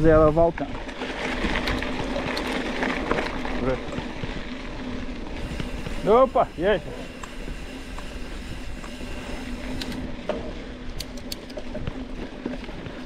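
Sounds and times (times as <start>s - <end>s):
bike clicks and rattles: 0.0s - 13.0s.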